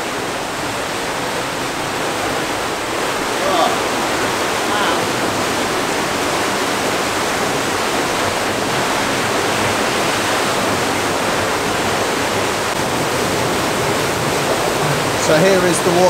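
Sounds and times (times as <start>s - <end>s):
rushing churning water: 0.0s - 16.0s.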